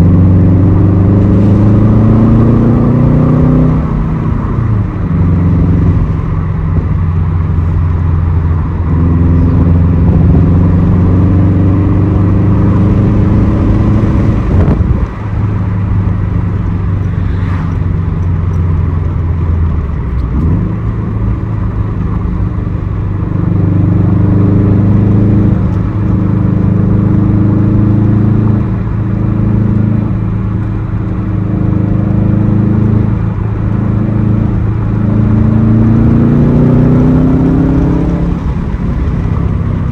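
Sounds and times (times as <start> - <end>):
turbocharged car engine accelerating: 0.0 - 39.9.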